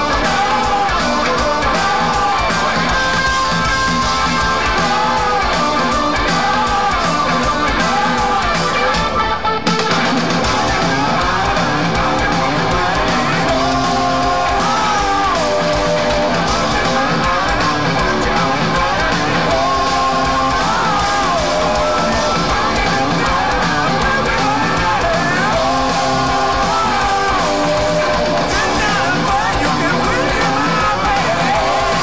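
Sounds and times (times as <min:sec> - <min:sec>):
person singing: 0:00.0 - 0:09.6, 0:10.3 - 0:32.0
drums: 0:00.0 - 0:32.0
electric guitar: 0:00.0 - 0:32.0.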